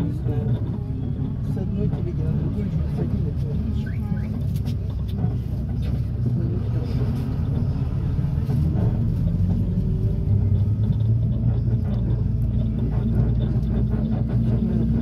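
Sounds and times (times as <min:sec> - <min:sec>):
minibus engine and road noise: 0:00.0 - 0:15.0.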